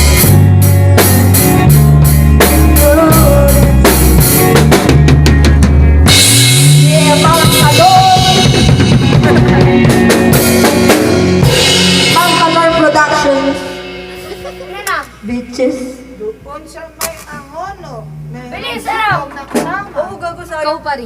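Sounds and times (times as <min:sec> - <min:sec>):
drum kit: 0:00.0 - 0:20.5
bass guitar: 0:00.0 - 0:20.7
guitar: 0:00.0 - 0:21.0.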